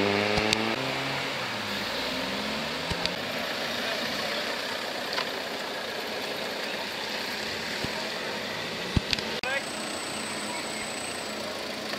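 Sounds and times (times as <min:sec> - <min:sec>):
car engine pulling away: 0:00.0 - 0:11.9
steady hum of engines: 0:00.0 - 0:11.9.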